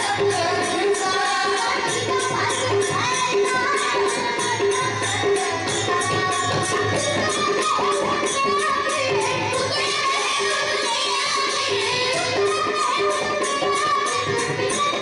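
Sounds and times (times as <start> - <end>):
girls singing in chorus: 0.0 - 15.0
jingling percussion: 0.0 - 15.0.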